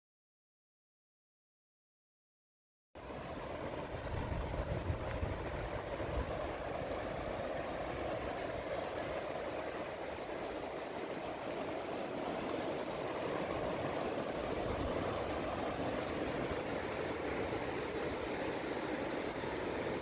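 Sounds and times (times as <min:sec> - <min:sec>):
waves breaking on beach: 0:03.0 - 0:20.0.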